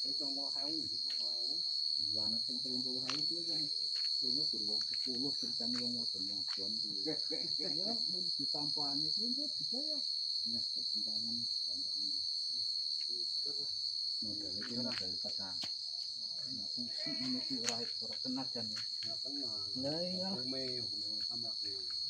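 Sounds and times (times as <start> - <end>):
people talking: 0.0 - 12.2, 13.2 - 15.7, 16.4 - 22.0
crickets chirping: 0.0 - 22.0.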